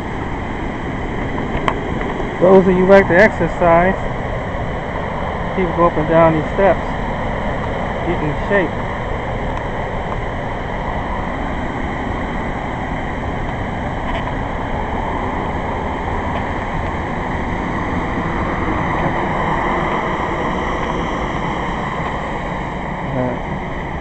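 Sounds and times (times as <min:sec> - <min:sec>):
loud rushing noise with deep rumble: 0:00.0 - 0:24.0.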